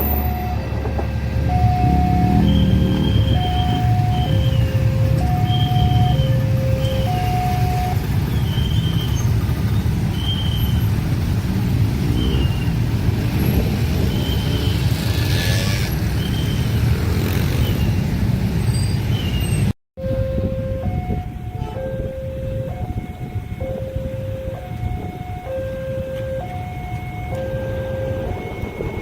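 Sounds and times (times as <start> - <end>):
crossing alarm tones: 0.0 - 15.5, 20.0 - 29.0
train rumbling past: 0.0 - 18.6, 20.8 - 29.0.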